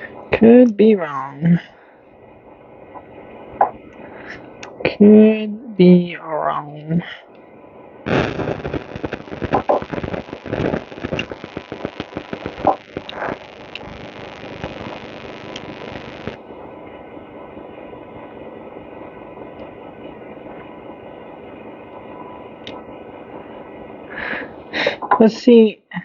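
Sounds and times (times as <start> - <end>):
steady hum: 0.0 - 24.9.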